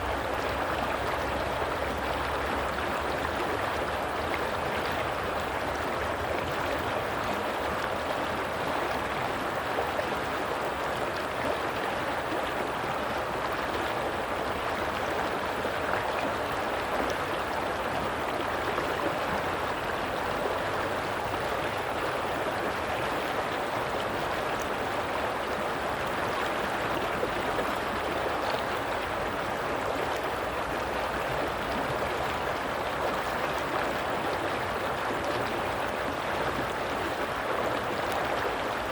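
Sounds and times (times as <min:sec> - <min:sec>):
stream water rushing and gurgling: 0:00.0 - 0:38.9.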